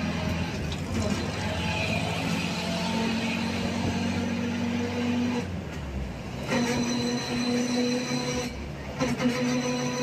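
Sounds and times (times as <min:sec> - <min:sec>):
wheels squealing: 0:00.0 - 0:05.5, 0:06.3 - 0:10.0
light-rail train whine: 0:00.0 - 0:10.0.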